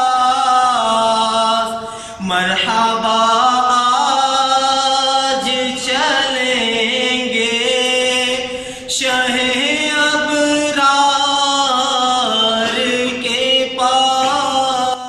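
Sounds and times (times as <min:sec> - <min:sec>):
young man singing unaccompanied: 0:00.0 - 0:15.0.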